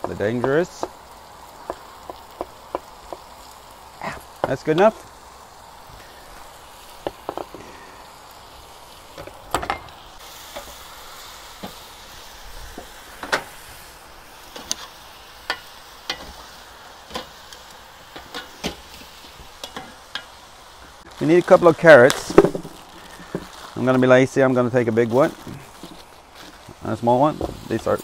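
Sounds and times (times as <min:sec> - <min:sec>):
meat sizzling in a wok: 0:00.0 - 0:28.0.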